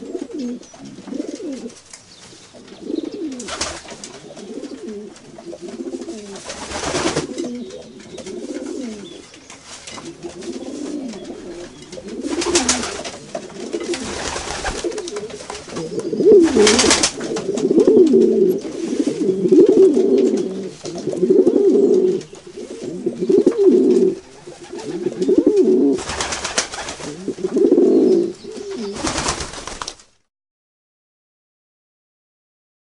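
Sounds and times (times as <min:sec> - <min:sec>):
pigeons cooing: 0:00.0 - 0:29.6.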